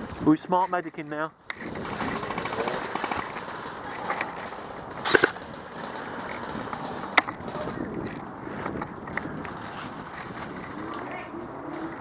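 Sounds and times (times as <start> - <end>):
steady rustling: 0.0 - 12.0
sharp cracks: 1.4 - 11.1.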